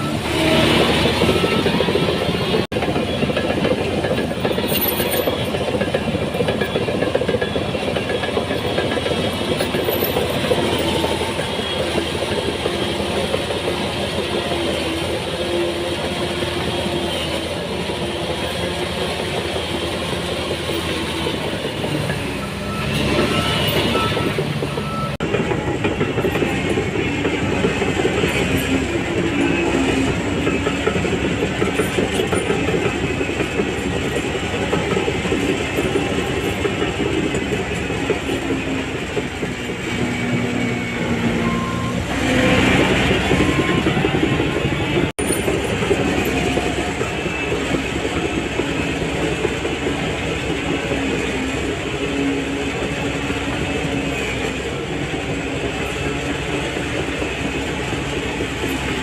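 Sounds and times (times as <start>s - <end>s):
bulldozer diesel engine under load: 0.0s - 59.0s
steel tracks clanking: 0.0s - 59.0s.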